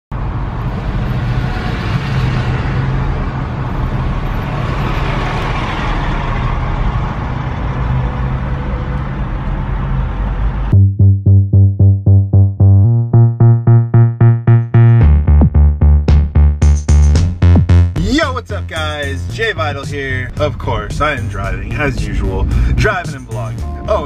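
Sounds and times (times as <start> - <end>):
car engine and road noise: 0.1 - 12.6, 13.4 - 24.0.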